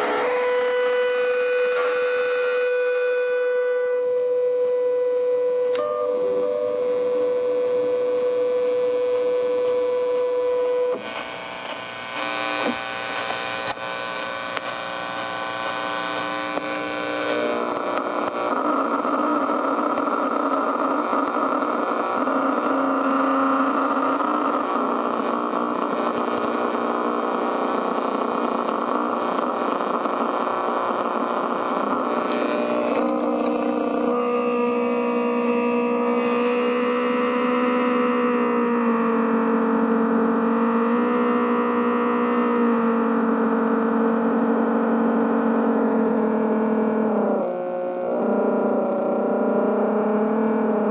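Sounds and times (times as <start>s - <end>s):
distorted guitar amp buzzing: 0.0s - 50.9s.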